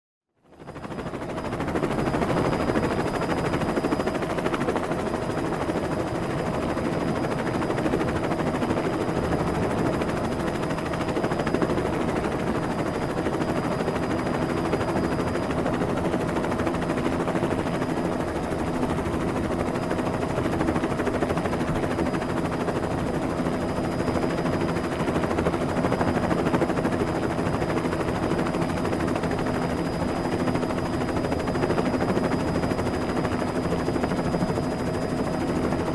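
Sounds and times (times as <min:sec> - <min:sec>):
helicopter engine whine: 0:00.5 - 0:35.9.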